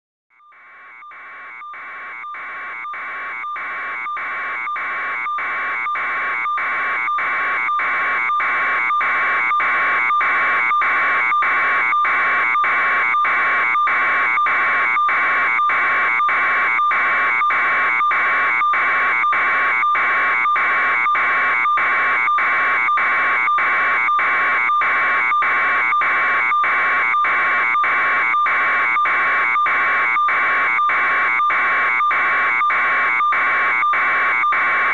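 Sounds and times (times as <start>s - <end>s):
pulsing electronic alarm beeps: 0.4s - 34.9s.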